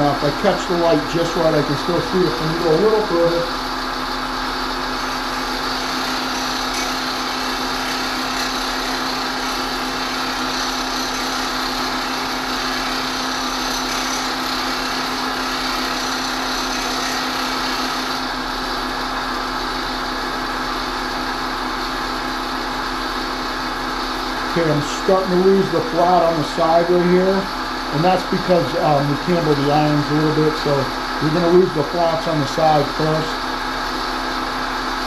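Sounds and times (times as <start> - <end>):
bench grinder motor hum: 0.0 - 35.0.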